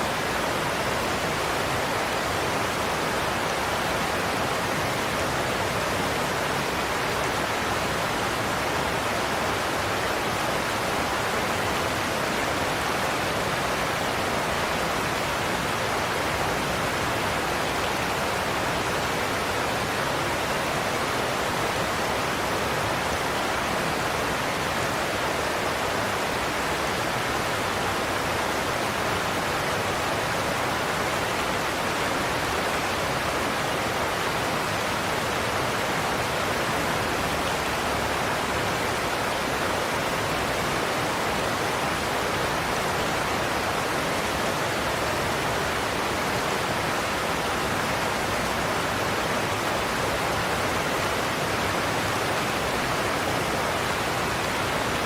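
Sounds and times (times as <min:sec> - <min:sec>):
waterfall roar: 0:00.0 - 0:55.0.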